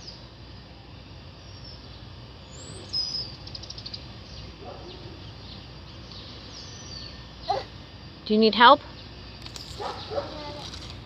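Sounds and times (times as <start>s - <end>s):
small bird singing: 0.0s - 0.3s, 1.3s - 11.0s
steady background noise: 0.0s - 11.0s.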